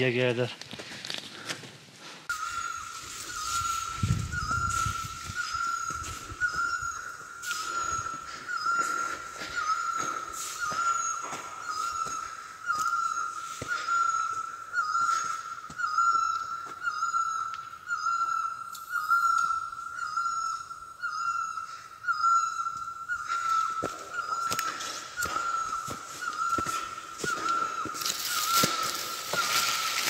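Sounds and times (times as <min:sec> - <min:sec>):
high thin bird chirps: 0:02.3 - 0:30.0.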